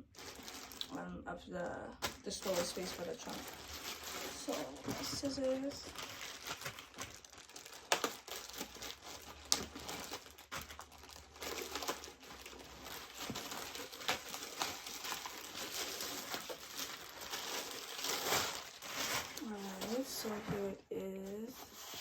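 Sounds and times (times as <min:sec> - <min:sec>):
packaging crinkling and rustling: 0:00.0 - 0:01.0, 0:01.7 - 0:20.8, 0:21.4 - 0:22.0.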